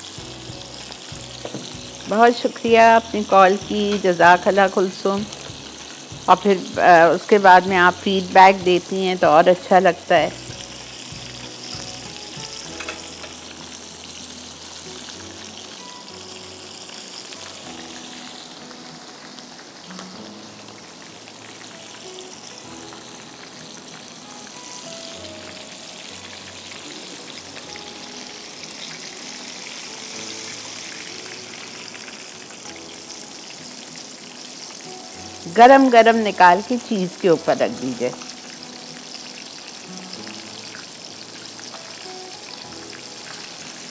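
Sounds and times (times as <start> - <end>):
chicken sizzling in hot oil: 0.0 - 43.9.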